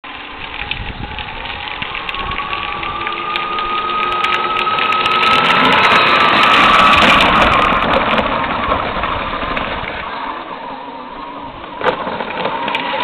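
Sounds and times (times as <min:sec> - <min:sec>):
electric motors whining: 0:00.0 - 0:13.0
plastic wheels rolling on asphalt: 0:00.0 - 0:13.0.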